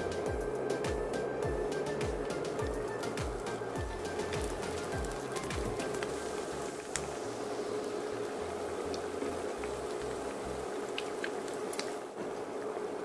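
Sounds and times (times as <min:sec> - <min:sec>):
food sizzling in hot oil: 0:00.0 - 0:13.0
steady low hum: 0:00.0 - 0:13.0.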